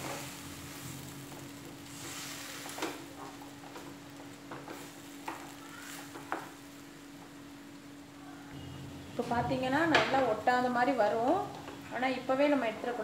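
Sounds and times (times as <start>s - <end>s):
low steady hum: 0.0s - 13.0s
mixture sizzling in pan: 0.0s - 13.0s.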